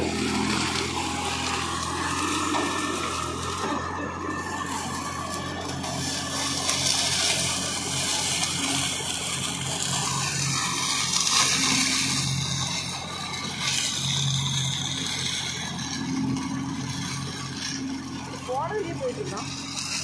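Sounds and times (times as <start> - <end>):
mulcher shredding dry leaves: 0.0 - 20.0
tractor diesel engine running: 0.0 - 20.0.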